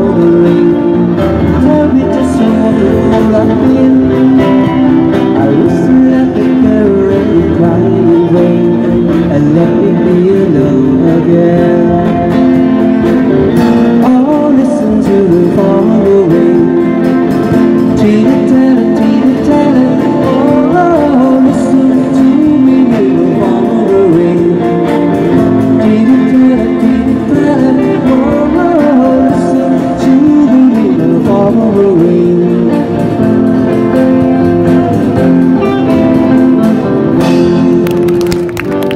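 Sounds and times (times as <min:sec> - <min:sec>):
person singing into a microphone: 0:00.0 - 0:34.4
electric guitar: 0:00.0 - 0:38.9.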